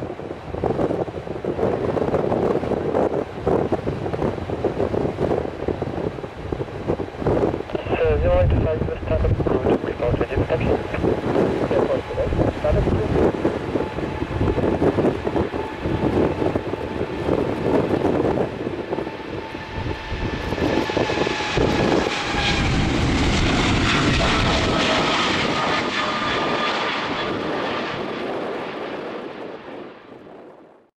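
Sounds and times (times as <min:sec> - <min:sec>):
wind buffeting microphone: 0:00.0 - 0:30.8
jet engines whining: 0:00.1 - 0:30.4.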